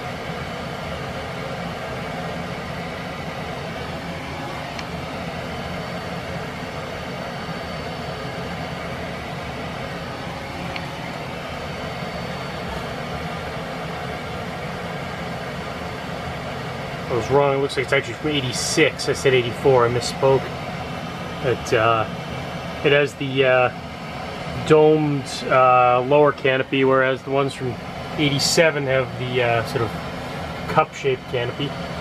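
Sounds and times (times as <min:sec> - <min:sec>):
low motor hum: 0:00.0 - 0:26.5
ceiling fan air rush: 0:00.0 - 0:32.0.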